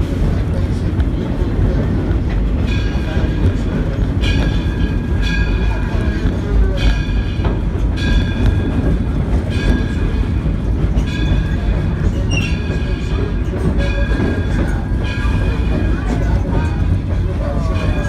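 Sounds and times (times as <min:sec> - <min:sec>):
train rumbling on track: 0:00.0 - 0:18.0
locomotive bell ringing: 0:01.6 - 0:18.0.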